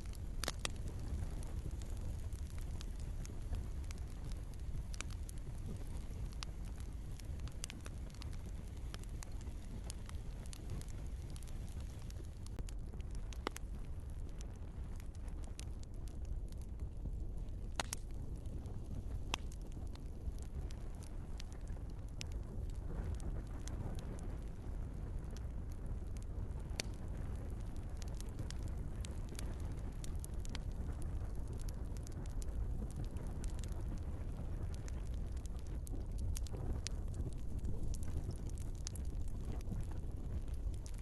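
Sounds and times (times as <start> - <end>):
fire rumbling: 0.0 - 41.0
logs crackling and popping: 0.0 - 41.0.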